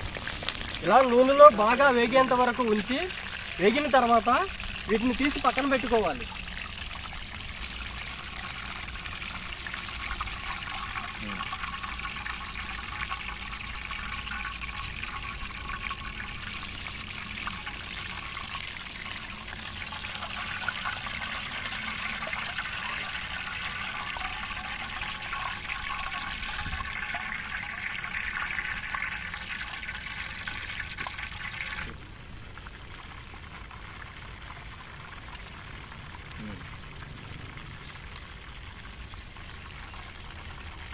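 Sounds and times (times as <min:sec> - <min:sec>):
food deep-frying in hot oil: 0:00.0 - 0:40.9.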